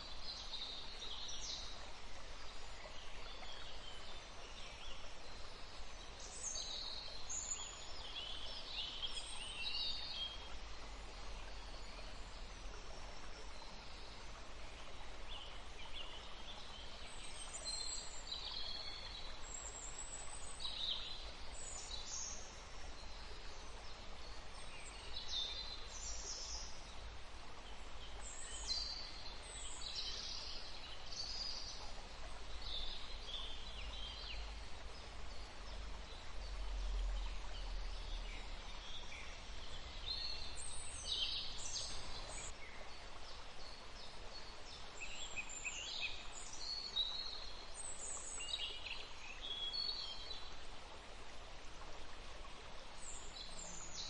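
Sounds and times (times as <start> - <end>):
faint outdoor hiss: 0.0 - 54.0.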